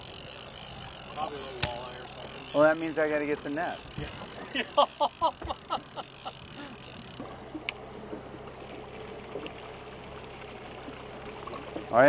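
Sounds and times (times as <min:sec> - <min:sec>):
outboard motor running: 0:00.0 - 0:12.0
water washing along hull: 0:00.0 - 0:12.0.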